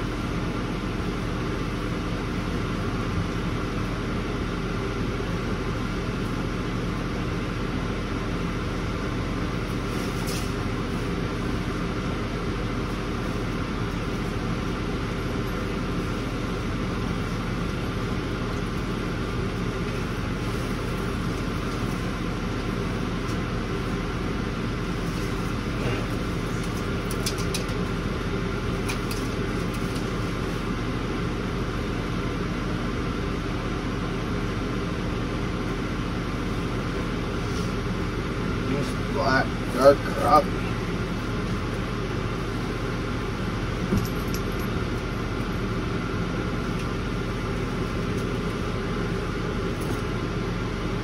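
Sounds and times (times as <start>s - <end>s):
machine humming with steady tones: 0.0s - 51.0s.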